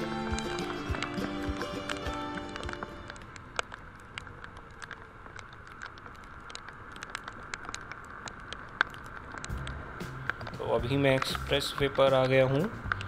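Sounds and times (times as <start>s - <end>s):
raindrops ticking on camera: 0.0s - 13.0s
wet road noise: 0.0s - 13.0s.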